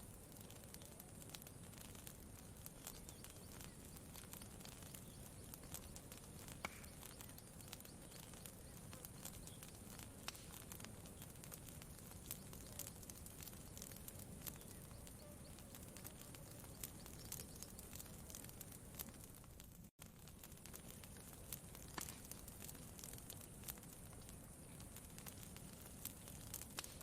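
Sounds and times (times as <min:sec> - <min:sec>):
campfire crackling: 0:00.0 - 0:27.0
low steady hiss: 0:00.0 - 0:27.0.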